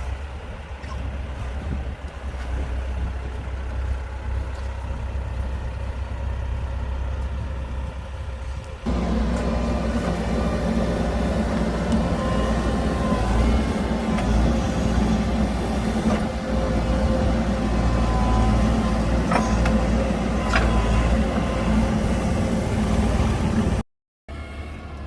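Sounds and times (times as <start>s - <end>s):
heavy diesel engine humming: 0.0s - 25.0s.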